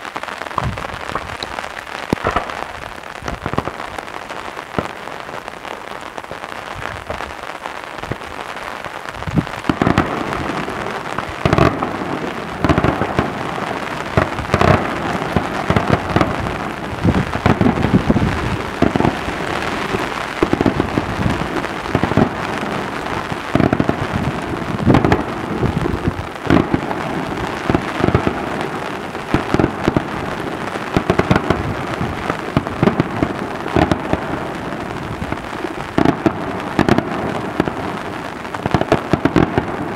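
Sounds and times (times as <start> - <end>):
crackling hiss: 0.0 - 39.9
fireworks booming with echoes: 0.0 - 39.9.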